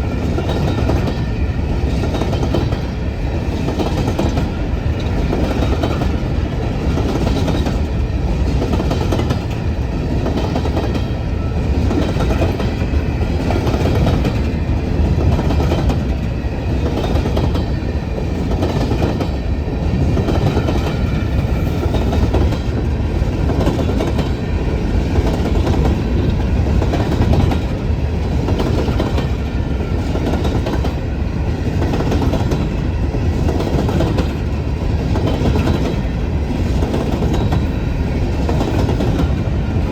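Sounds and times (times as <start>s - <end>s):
high tones from wheels on rail: 0.0s - 39.9s
train cars rumbling past: 0.0s - 39.9s.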